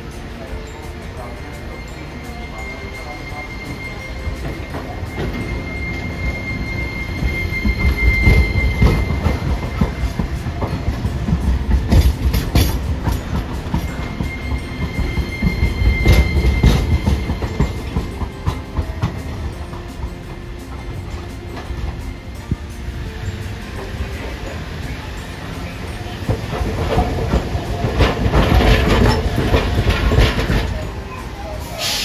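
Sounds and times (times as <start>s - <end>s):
high wheel squeal: 0.0s - 32.0s
tram wheels rumbling on rails: 0.0s - 32.0s.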